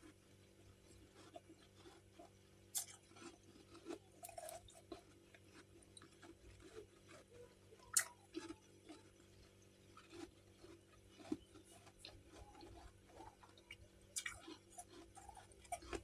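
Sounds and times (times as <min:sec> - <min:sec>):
chewing and crunching frost: 0:00.0 - 0:16.0.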